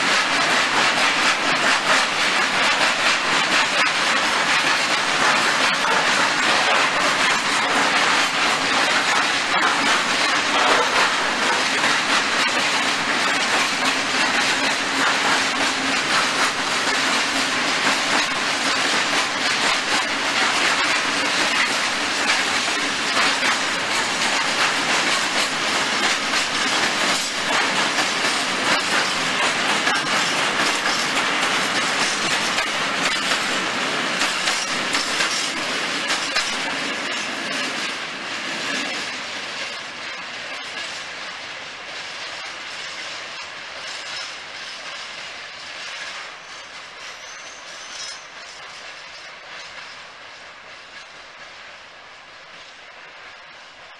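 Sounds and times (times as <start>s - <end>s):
steel wheels on rails: 0.0s - 53.9s.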